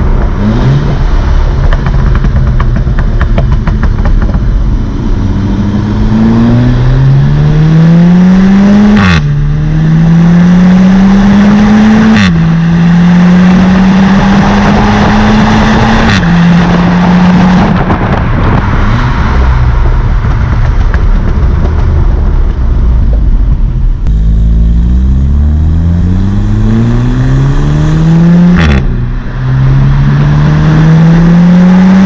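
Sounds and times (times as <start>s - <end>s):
exhaust crack at upshift: 0.0s - 7.5s, 8.3s - 32.0s
car engine accelerating: 0.0s - 32.0s.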